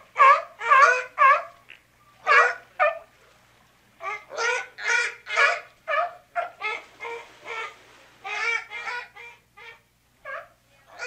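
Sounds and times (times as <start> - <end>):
sea lions barking: 0.0 - 3.1, 4.0 - 11.0.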